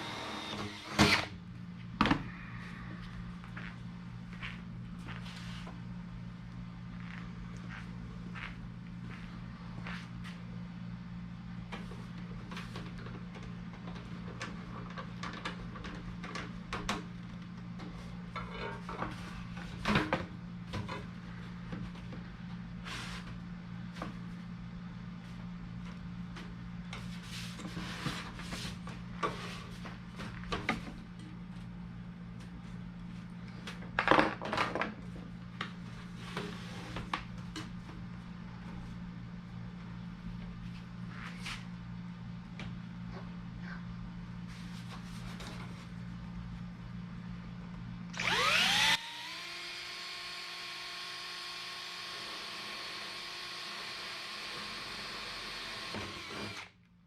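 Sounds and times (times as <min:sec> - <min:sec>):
steady low hum: 0:00.0 - 0:34.0, 0:34.9 - 0:49.6.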